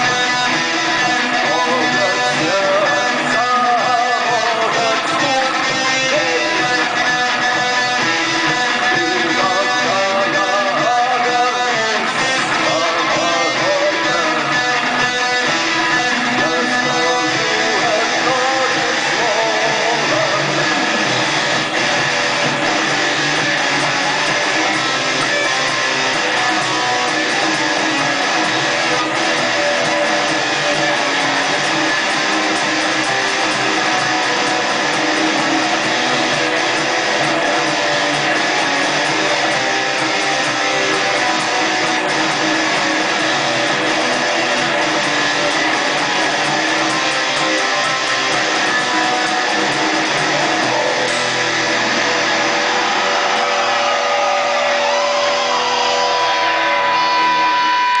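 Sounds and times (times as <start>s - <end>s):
instrumental guitar music: 0.0s - 58.0s.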